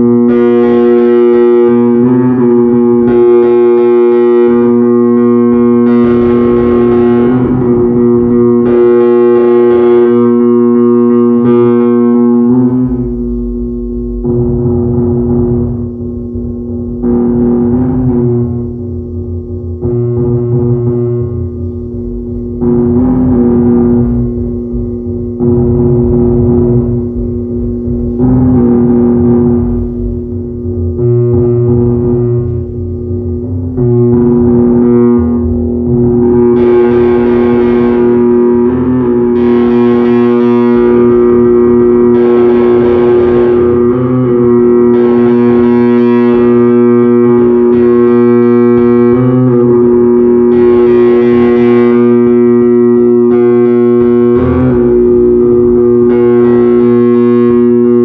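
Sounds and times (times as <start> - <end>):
distorted buzzing synthesizer tone: 0.0 - 58.0.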